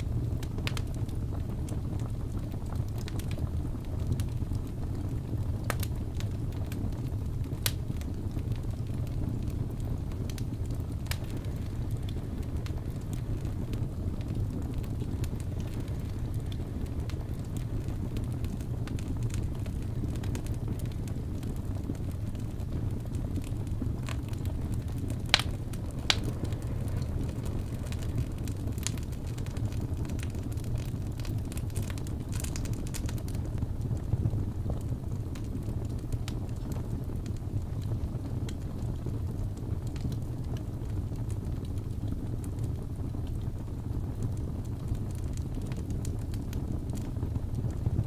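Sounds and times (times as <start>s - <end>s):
fire crackles and pops: 0.0s - 48.0s
low rumble of burning wood: 0.0s - 48.0s.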